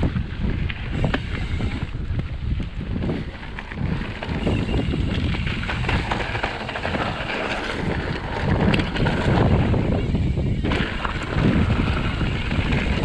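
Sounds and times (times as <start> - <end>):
bike rattling over bumps: 0.0 - 13.0
bike tyres on dirt: 0.0 - 13.0
wind buffeting microphone: 0.0 - 13.0.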